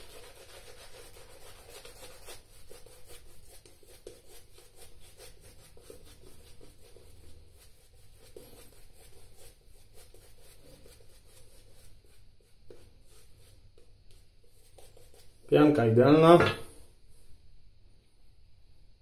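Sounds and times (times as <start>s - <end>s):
shaving brush swishing lather: 0.0s - 16.3s.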